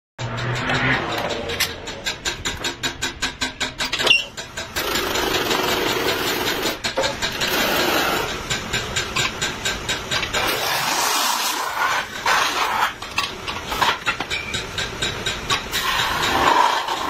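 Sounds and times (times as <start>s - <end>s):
metal-spinning lathe knocking: 0.2s - 17.0s.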